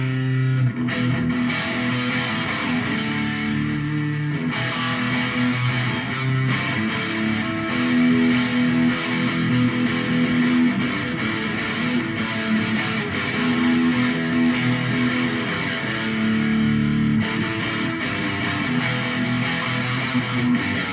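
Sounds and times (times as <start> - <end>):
electric guitar chords: 0.0 - 20.9.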